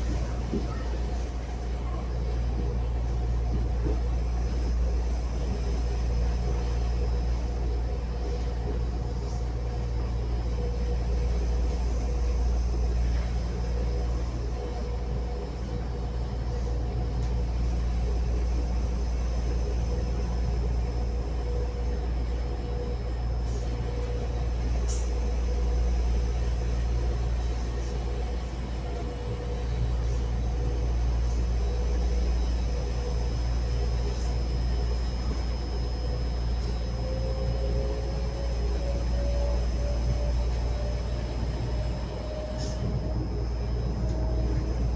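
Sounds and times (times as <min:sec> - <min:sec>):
electric train rumbling: 0:00.0 - 0:44.9
wavering mid-pitched hum: 0:00.0 - 0:44.9.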